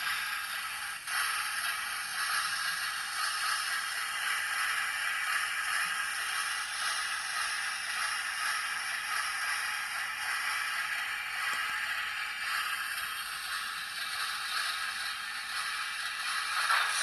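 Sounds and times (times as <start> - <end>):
steam hiss from small speaker: 0.0 - 17.0.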